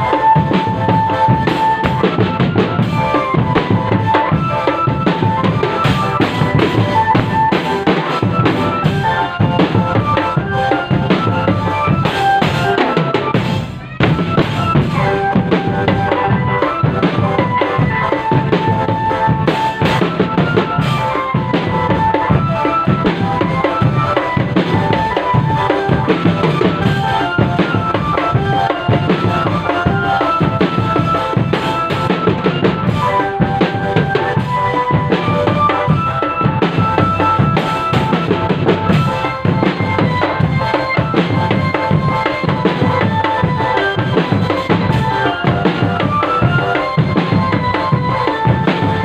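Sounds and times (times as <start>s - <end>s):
bass and snare drums: 0.0s - 49.0s
melody of short held notes: 0.0s - 49.0s.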